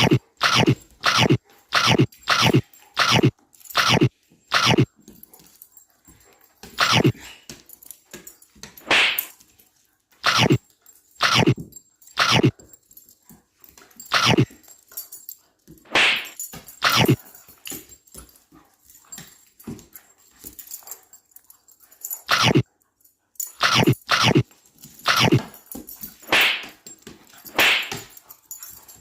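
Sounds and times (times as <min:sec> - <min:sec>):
dogs barking and yipping: 0:00.0 - 0:07.8, 0:10.2 - 0:13.1, 0:13.7 - 0:15.3, 0:15.9 - 0:22.8, 0:23.4 - 0:29.0.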